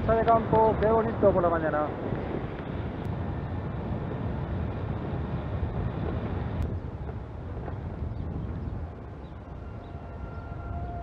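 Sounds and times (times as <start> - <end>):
tyres rumbling on road: 0.0 - 10.8
wind buffeting microphone: 0.0 - 11.0.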